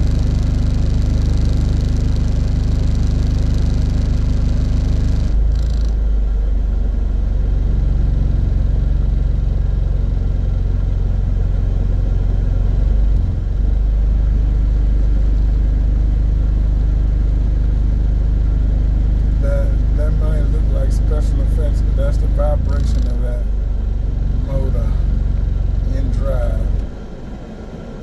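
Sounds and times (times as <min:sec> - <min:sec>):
car engine rumble inside cabin: 0:00.0 - 0:28.0.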